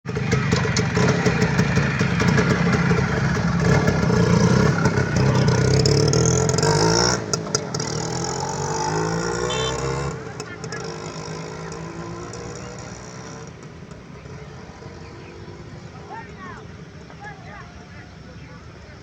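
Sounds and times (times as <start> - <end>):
motorcycle engine revving: 0.1 - 18.8.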